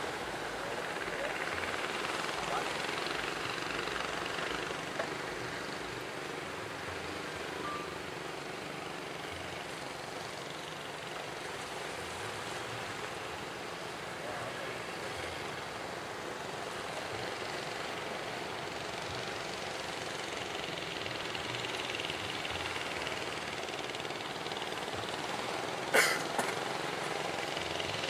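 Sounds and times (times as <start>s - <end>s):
faint boat engine drone: 0.0s - 28.0s
wind: 0.0s - 28.0s.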